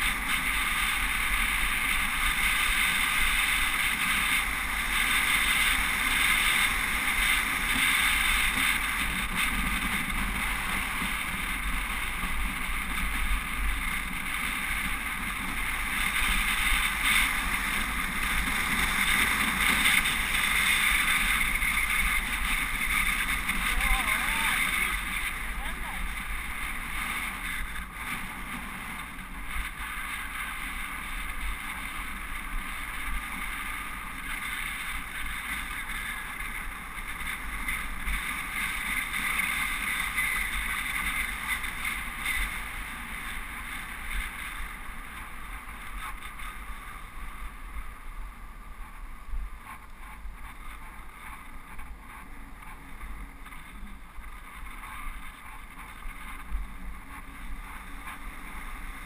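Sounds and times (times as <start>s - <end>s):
bicycle road noise: 0.0s - 59.0s
wind rushing over camera: 0.0s - 59.0s.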